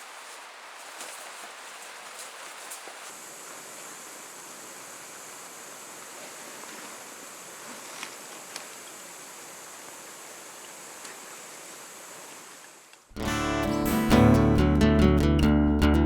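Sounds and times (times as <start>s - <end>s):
river water rushing: 0.0s - 14.5s.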